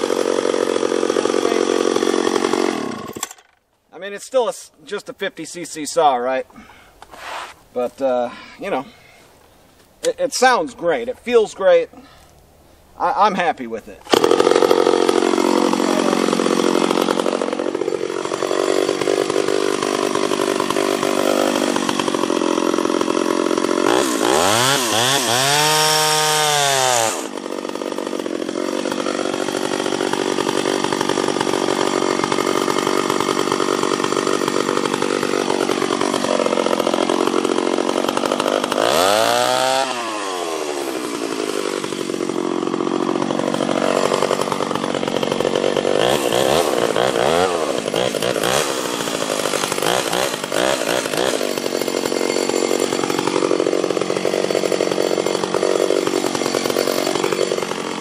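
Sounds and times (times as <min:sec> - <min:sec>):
chainsaw cutting wood: 0:00.0 - 0:03.7, 0:06.6 - 0:07.6, 0:14.0 - 0:58.0.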